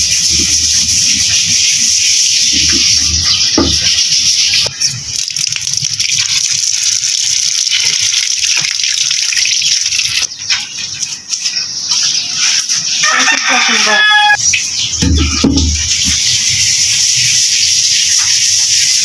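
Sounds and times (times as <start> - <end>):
water gushing onto metal: 0.0 - 13.5, 14.4 - 19.0.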